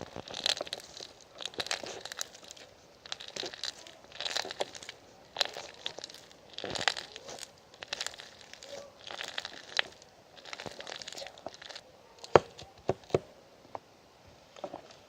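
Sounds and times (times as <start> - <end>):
packaging crinkling and rustling: 0.0 - 13.2.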